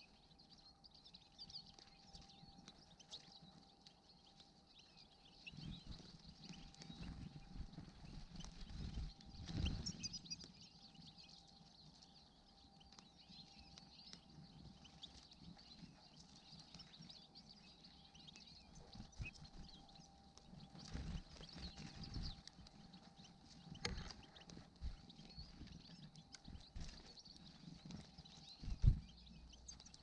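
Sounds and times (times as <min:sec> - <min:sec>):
small birds twittering: 0:00.0 - 0:30.0.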